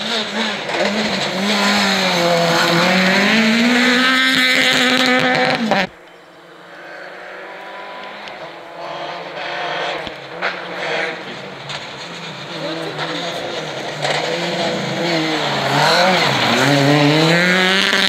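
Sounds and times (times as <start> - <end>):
rally car engine at high revs: 0.0 - 6.0, 6.6 - 18.0
faint rally car engine: 0.0 - 18.0.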